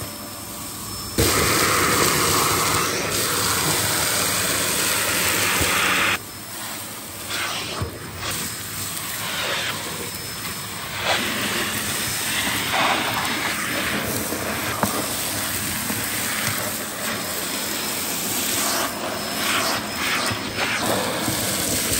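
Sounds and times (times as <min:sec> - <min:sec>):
vacuum cleaner suction on carpet: 0:00.0 - 0:21.9.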